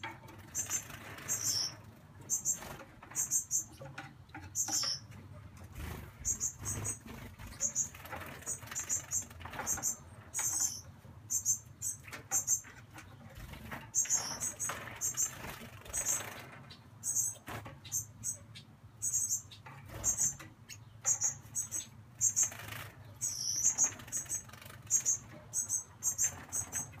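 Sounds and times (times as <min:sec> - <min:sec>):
high bird chirps: 0:00.4 - 0:05.2, 0:06.2 - 0:12.8, 0:13.9 - 0:27.0.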